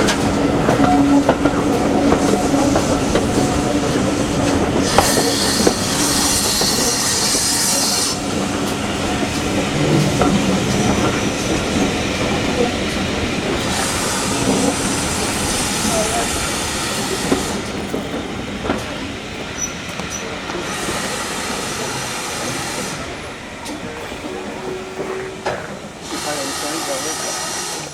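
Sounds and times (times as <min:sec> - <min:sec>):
hissing: 0:00.0 - 0:27.9
train rumble and wheel clatter: 0:00.0 - 0:27.9.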